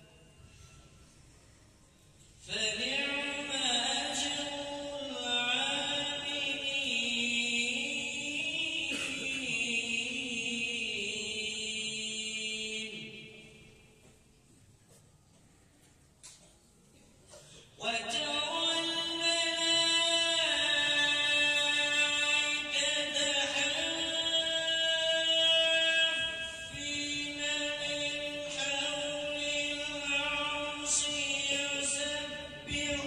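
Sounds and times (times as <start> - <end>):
person chanting melodic recitation: 2.4 - 13.9, 17.8 - 33.0.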